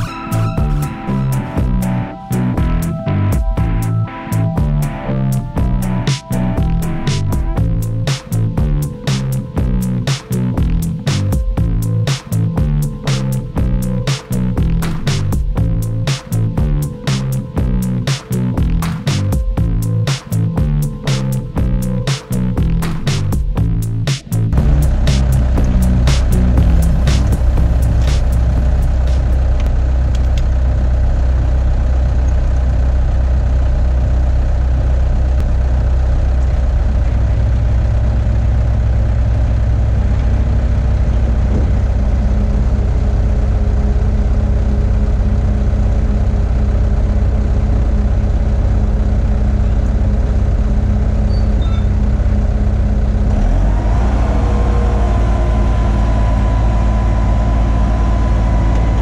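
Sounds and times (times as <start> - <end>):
steady whine: 0.0 - 20.0, 24.3 - 51.3, 51.9 - 59.0
diesel engine idling: 0.0 - 59.0.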